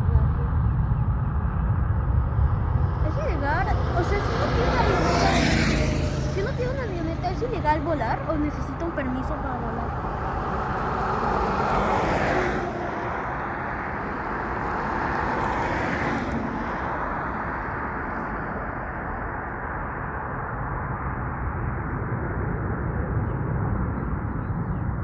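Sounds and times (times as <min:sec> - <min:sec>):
jet engines rushing: 0:00.0 - 0:25.0
low rumble: 0:00.0 - 0:25.0.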